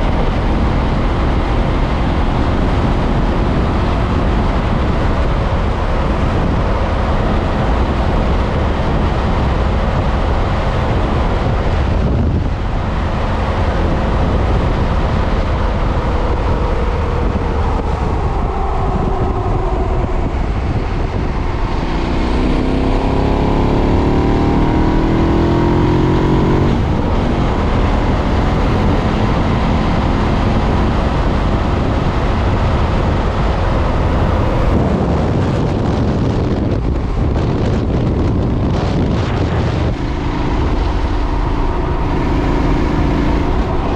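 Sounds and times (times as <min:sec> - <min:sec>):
motorcycle engine while riding: 0:00.0 - 0:43.9
wind rush: 0:00.0 - 0:43.9.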